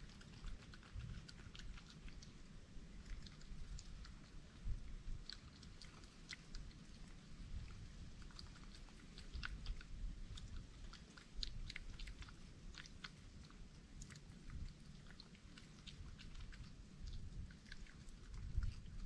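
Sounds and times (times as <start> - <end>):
animal chewing food: 0.0 - 19.0.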